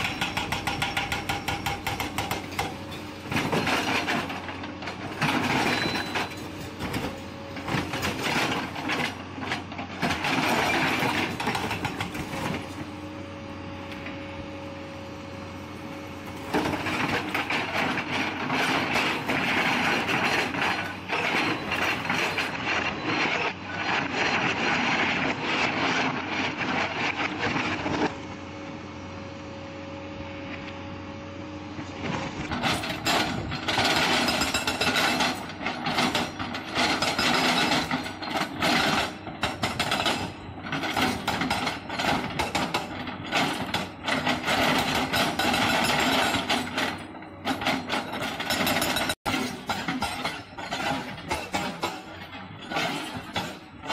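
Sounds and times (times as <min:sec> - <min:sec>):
hydraulic rock breaker hammering: 0:00.0 - 0:12.9, 0:16.2 - 0:28.0, 0:32.1 - 0:53.9.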